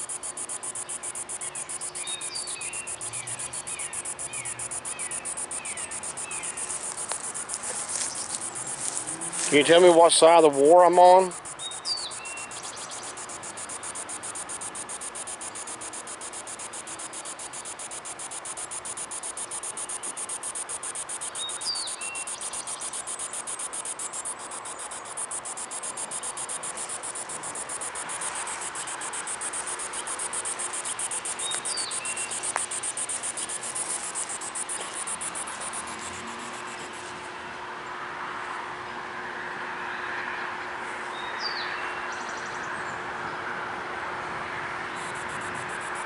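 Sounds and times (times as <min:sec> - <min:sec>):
insects trilling: 0:00.0 - 0:37.3, 0:44.9 - 0:46.0.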